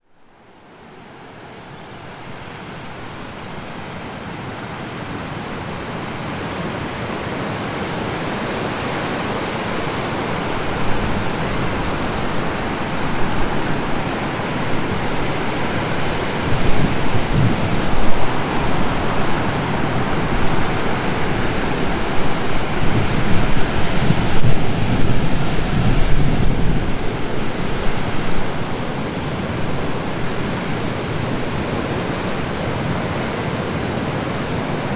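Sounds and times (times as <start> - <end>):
breaking ocean waves: 0.7 - 34.9.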